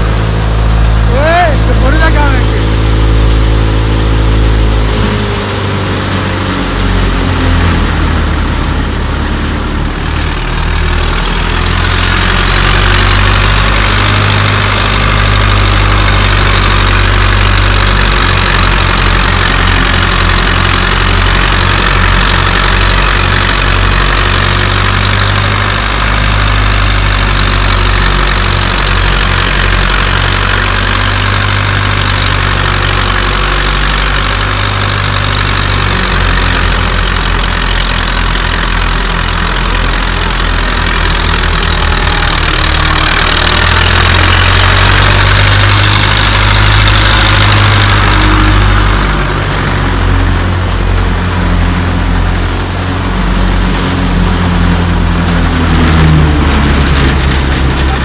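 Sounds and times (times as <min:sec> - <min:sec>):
thresher rushing noise: 0:00.0 - 0:58.0
tractor diesel engine running: 0:00.0 - 0:58.0.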